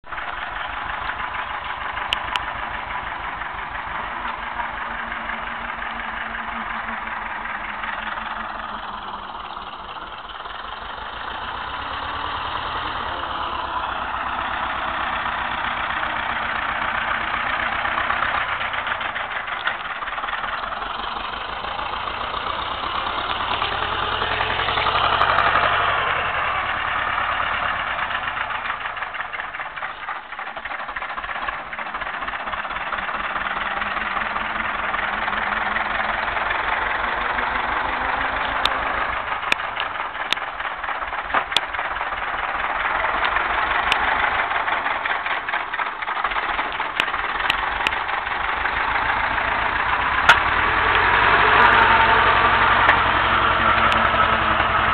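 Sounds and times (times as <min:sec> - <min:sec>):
tractor diesel engine clattering: 0:00.0 - 0:54.9.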